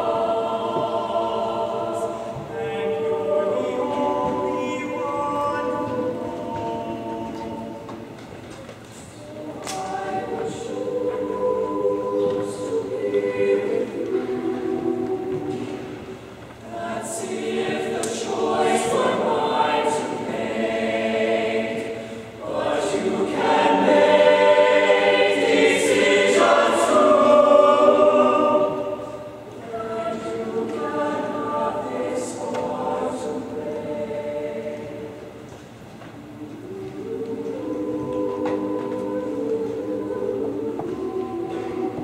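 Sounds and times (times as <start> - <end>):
choir singing a cappella: 0.0 - 8.3, 8.9 - 42.0.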